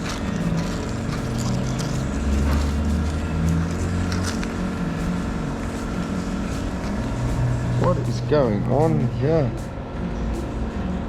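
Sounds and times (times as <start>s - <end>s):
mechanical hum of motor: 0.0s - 11.0s.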